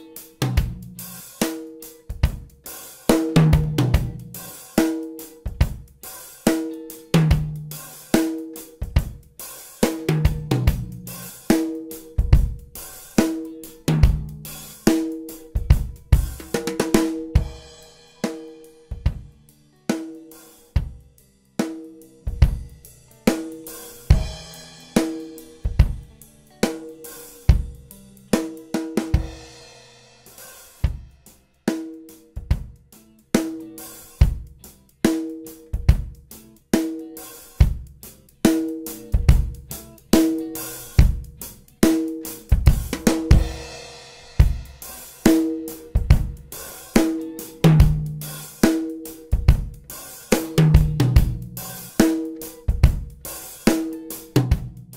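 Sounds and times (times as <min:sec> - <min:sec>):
drum kit playing a steady groove: 0:00.0 - 0:54.9.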